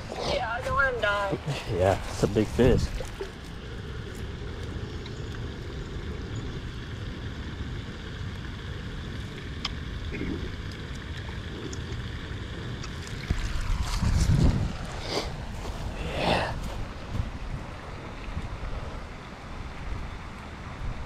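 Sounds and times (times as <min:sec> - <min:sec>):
wind buffeting microphone: 0:00.0 - 0:10.2, 0:11.5 - 0:21.0.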